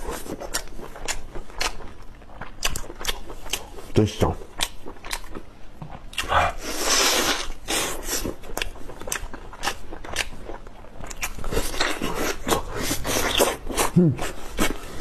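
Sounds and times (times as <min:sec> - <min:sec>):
chewing and gnawing meat: 0:00.0 - 0:15.0.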